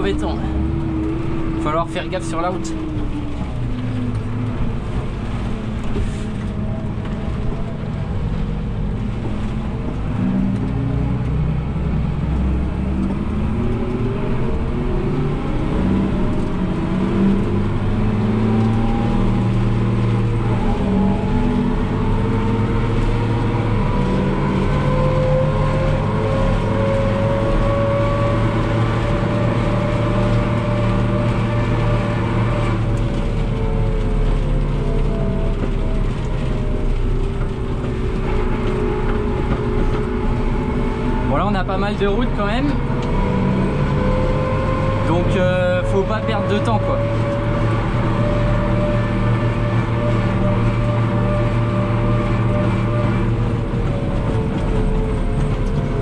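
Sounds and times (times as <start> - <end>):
tractor engine with rising whine: 0.0 - 56.0.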